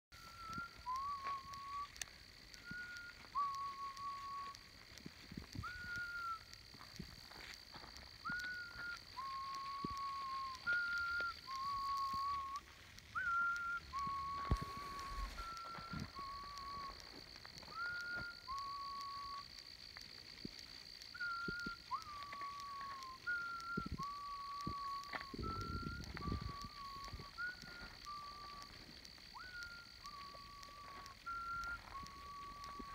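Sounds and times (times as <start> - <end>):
person whistling long notes: 0.1 - 32.9.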